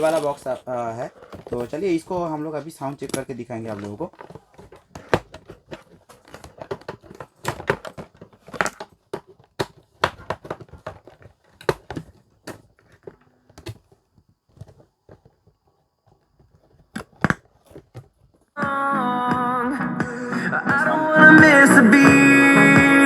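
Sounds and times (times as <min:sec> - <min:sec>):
cardboard box crinkling: 0:00.0 - 0:18.6
handling clicks and knocks: 0:00.0 - 0:18.6.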